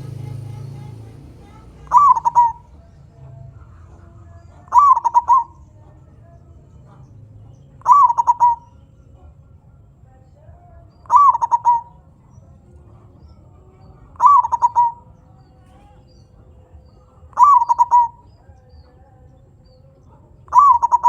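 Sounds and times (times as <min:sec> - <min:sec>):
dove cooing: 0:00.0 - 0:10.0, 0:10.8 - 0:21.0.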